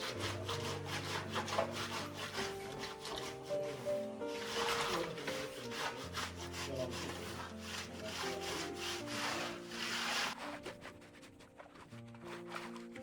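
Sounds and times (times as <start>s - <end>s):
background music: 0.0s - 13.0s
trowel scraping concrete: 0.0s - 13.0s.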